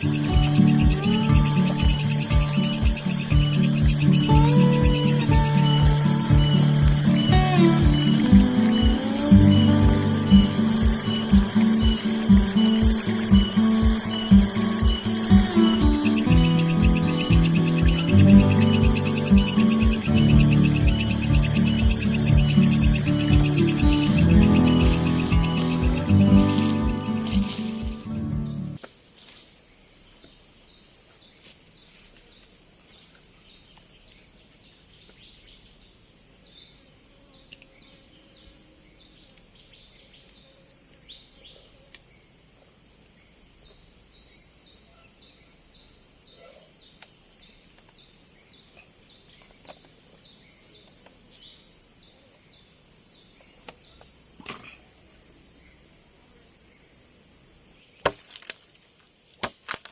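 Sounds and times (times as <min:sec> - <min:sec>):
insect chirping call: 0:00.0 - 0:59.9
insects droning: 0:00.0 - 0:59.9.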